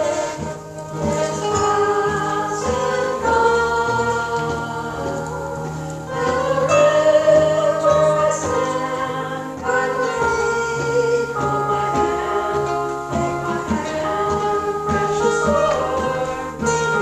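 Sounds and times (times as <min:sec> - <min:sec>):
choir singing a hymn: 0:00.0 - 0:17.0
instrumental accompaniment: 0:00.0 - 0:17.0.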